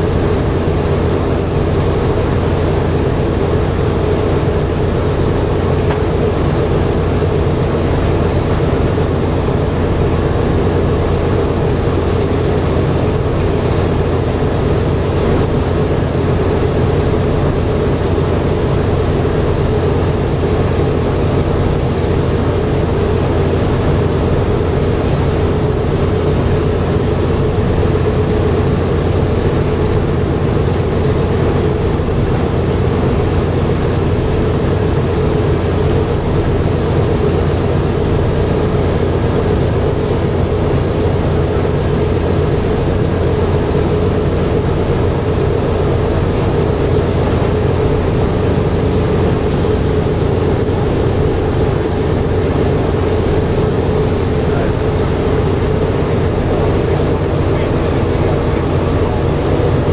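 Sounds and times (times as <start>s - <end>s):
radial engines droning: 0.0s - 59.9s.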